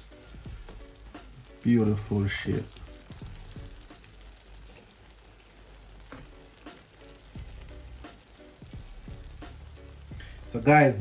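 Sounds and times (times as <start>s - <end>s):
sauce sizzling in frying pan: 0.0s - 11.0s.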